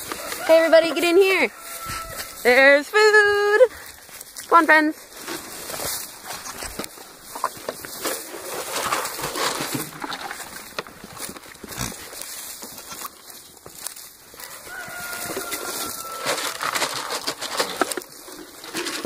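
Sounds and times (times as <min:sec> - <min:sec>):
goats rustling through dry straw: 0:00.0 - 0:19.0.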